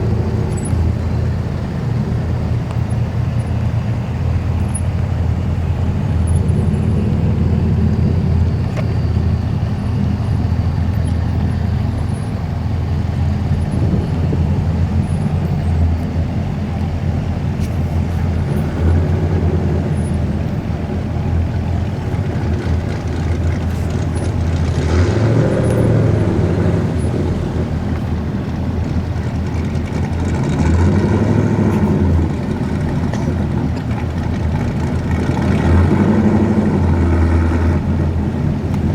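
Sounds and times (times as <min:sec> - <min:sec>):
car engines rumbling: 0:00.0 - 0:38.9.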